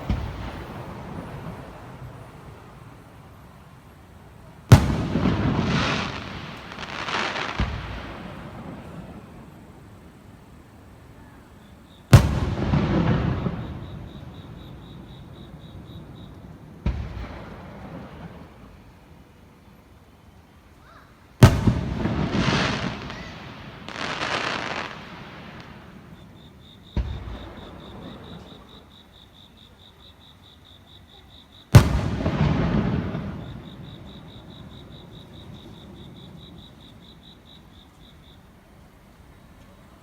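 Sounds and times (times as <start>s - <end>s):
fireworks shells booming: 0.0s - 10.7s, 11.4s - 19.0s, 21.4s - 28.9s, 31.7s - 38.2s
fireworks crackle: 0.0s - 19.3s, 21.4s - 28.9s, 31.7s - 40.0s.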